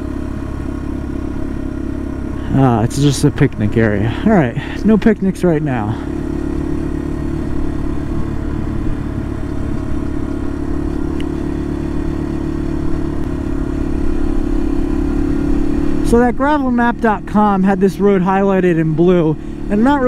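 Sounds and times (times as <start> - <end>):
motorcycle engine running steadily: 0.0 - 20.0.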